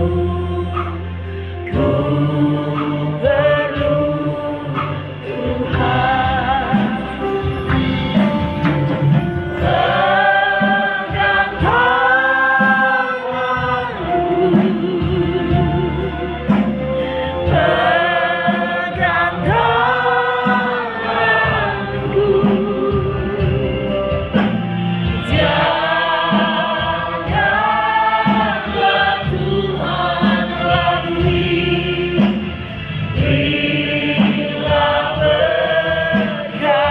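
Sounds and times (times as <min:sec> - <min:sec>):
group singing worship song: 0:00.0 - 0:36.9.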